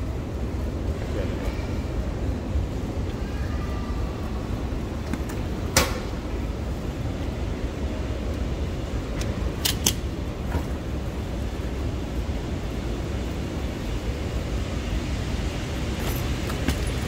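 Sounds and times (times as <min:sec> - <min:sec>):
airport hall rumble: 0:00.0 - 0:17.0.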